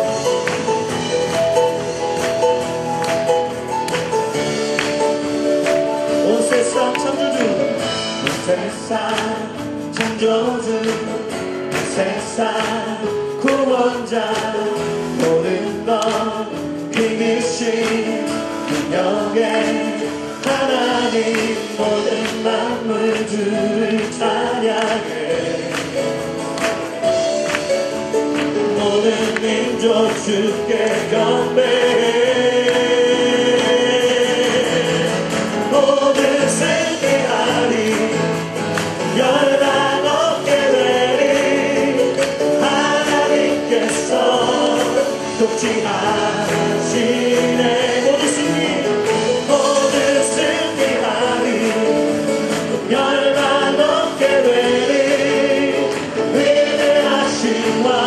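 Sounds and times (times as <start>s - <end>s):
acoustic guitar: 0.0s - 58.0s
drums: 0.0s - 58.0s
electric guitar: 0.0s - 58.0s
man singing: 4.4s - 27.5s, 28.2s - 58.0s.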